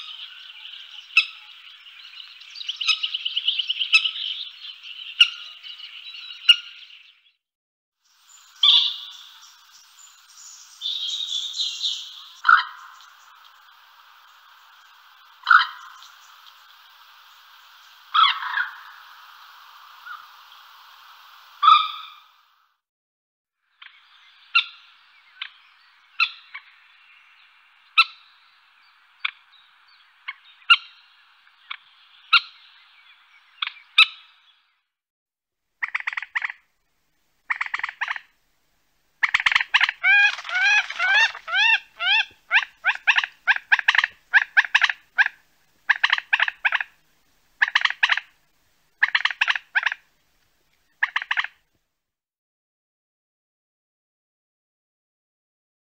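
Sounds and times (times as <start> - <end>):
moorhen calling: 0.0 - 7.3, 8.1 - 22.5, 23.8 - 34.7, 35.8 - 36.6, 37.4 - 38.4, 39.2 - 47.0, 47.6 - 48.4, 49.0 - 50.1, 50.9 - 51.6.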